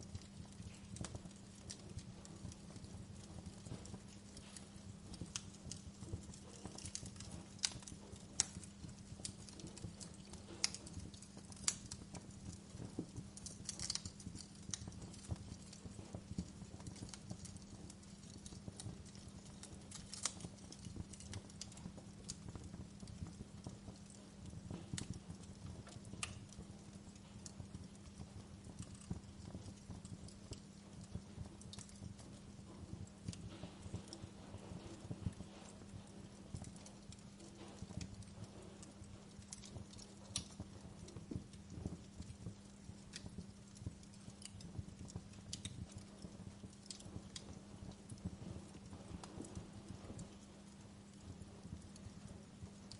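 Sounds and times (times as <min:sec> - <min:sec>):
low steady hum: 0:00.0 - 0:52.9
wood fire crackling: 0:00.0 - 0:52.9.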